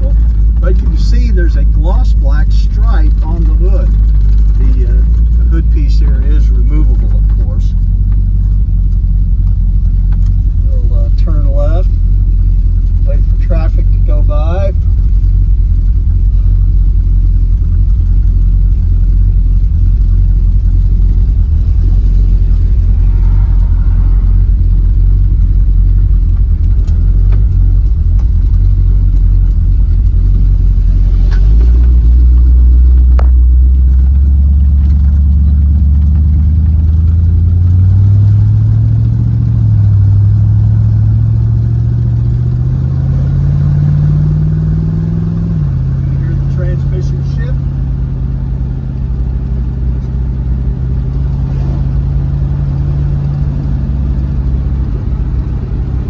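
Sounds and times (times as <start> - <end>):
engine rumbling and accelerating: 0.0 - 56.0.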